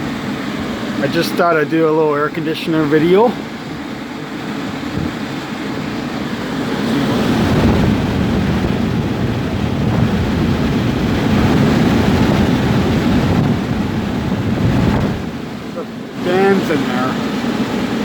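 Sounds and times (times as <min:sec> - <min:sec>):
fan blowing air: 0:00.0 - 0:18.0
wind buffeting microphone: 0:00.0 - 0:18.0.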